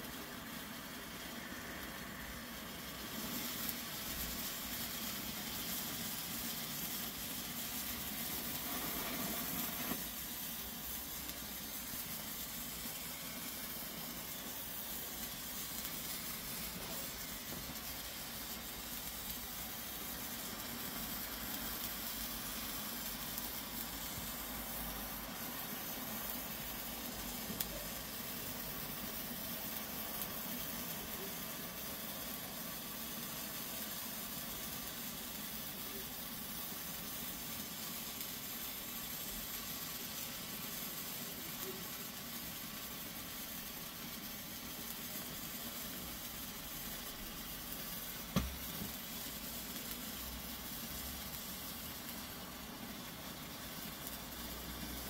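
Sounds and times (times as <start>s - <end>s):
flare hissing and sizzling: 0.0s - 55.0s.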